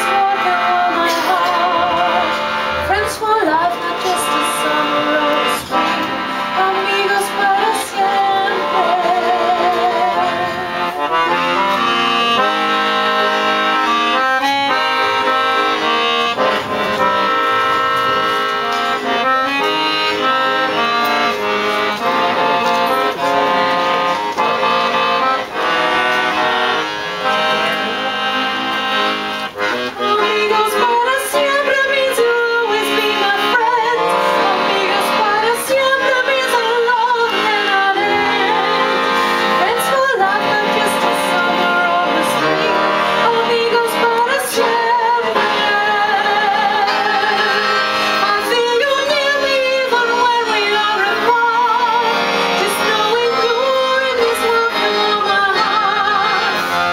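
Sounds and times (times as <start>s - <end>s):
accordion music: 0.0s - 56.9s.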